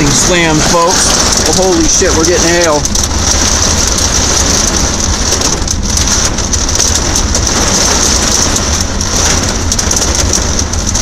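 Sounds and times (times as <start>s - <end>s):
hail pelting a car: 0.0s - 11.0s.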